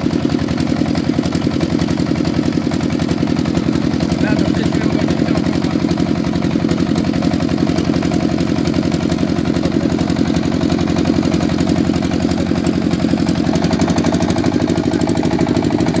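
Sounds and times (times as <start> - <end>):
boat motor puttering: 0.0 - 16.0.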